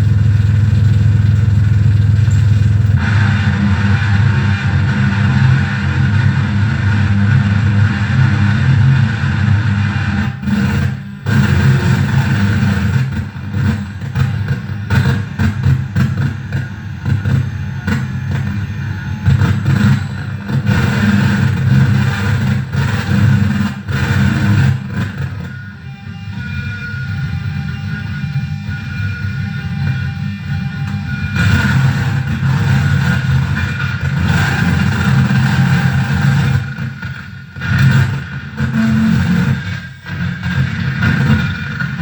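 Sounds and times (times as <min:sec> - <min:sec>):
harsh noise drone: 0:00.0 - 0:42.0.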